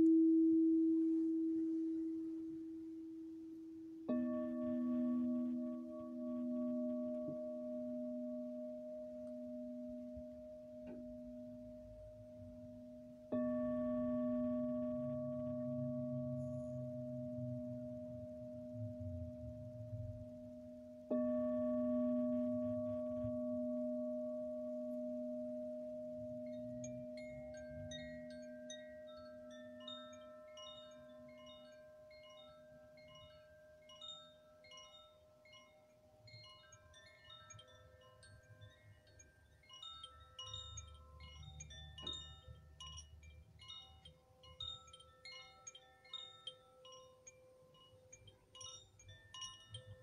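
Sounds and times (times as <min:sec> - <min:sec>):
singing bowl ringing: 0:00.0 - 0:50.0
small high chimes tinkling: 0:03.3 - 0:50.0.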